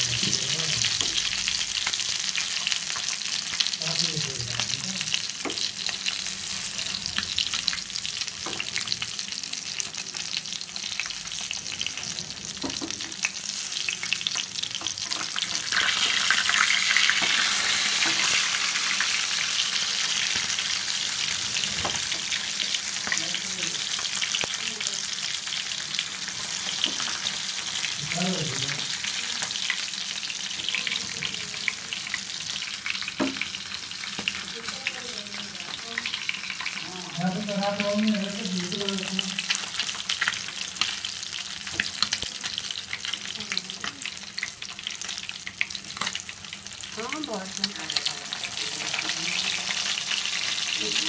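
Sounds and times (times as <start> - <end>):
fish sizzling in hot oil: 0.0 - 51.0.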